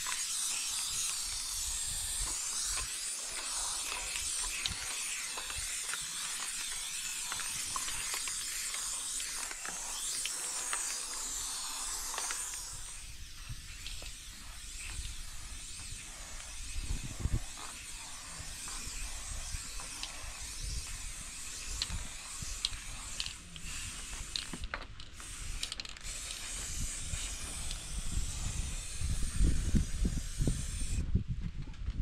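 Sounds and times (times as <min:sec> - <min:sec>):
spray-paint can hissing: 0:00.0 - 0:31.1.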